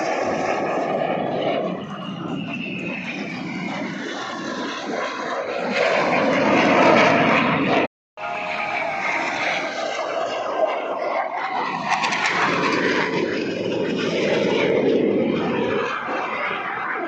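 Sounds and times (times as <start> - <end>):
aircraft engines rushing and whining: 0.0 - 17.0.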